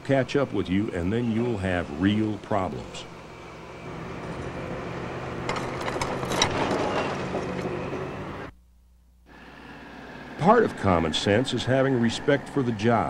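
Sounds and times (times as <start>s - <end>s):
excavator engine running: 0.0s - 8.6s, 9.3s - 13.0s.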